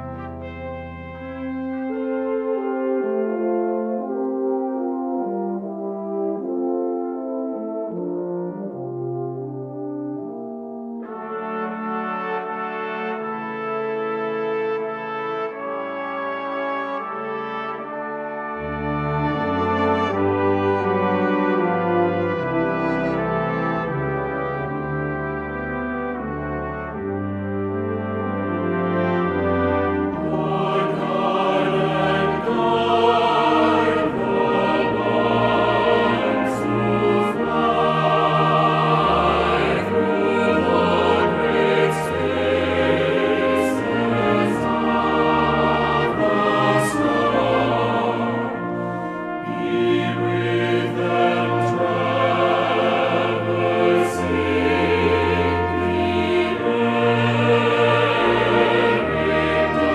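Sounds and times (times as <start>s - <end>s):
orchestral music with choir: 0.0s - 59.9s.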